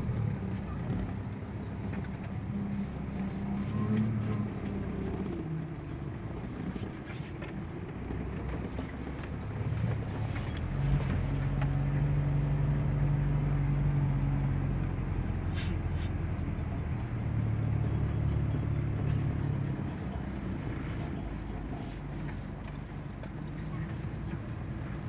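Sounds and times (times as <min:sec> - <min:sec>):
car engine hum: 0:00.0 - 0:25.0
road noise inside car: 0:00.0 - 0:25.0.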